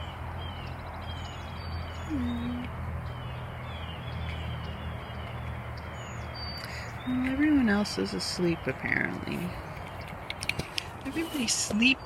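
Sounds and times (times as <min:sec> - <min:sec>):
birds chirping: 0:00.0 - 0:12.0
distant truck traffic rumble: 0:00.0 - 0:12.0.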